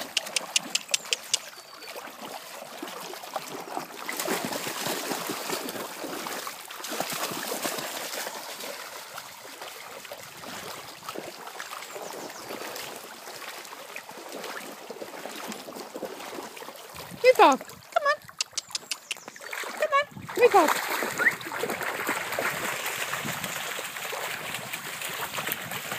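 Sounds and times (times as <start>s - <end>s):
dog splashing through water: 0.0s - 25.9s
shallow stream running: 0.0s - 25.9s.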